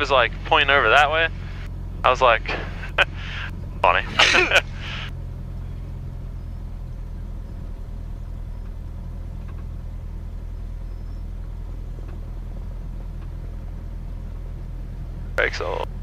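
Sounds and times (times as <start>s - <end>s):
aircraft engine idling: 0.0s - 16.0s.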